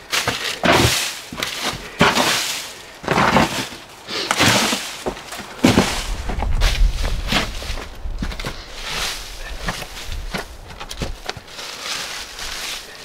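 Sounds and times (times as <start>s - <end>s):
gravel clattering and crunching: 0.0s - 13.0s.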